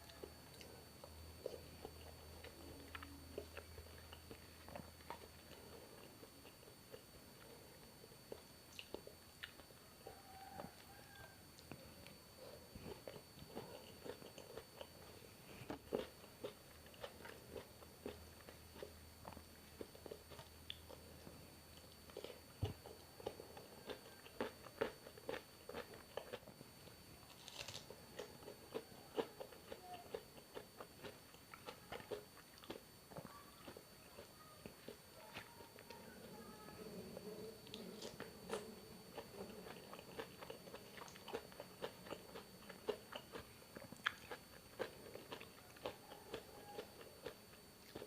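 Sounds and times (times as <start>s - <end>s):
person chewing crunchy food: 0.0s - 48.0s.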